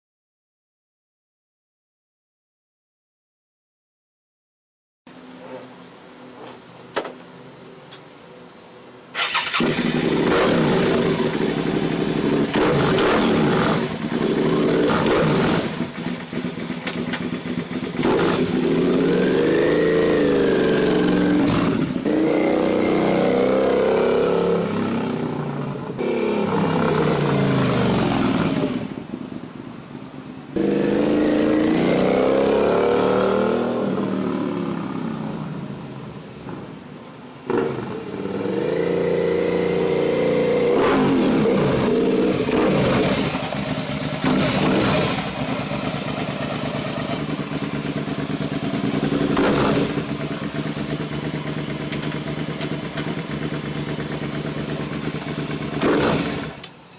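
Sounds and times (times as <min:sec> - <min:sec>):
motorcycle engine revving: 0:09.2 - 0:29.2, 0:30.5 - 0:36.8, 0:37.4 - 0:56.9.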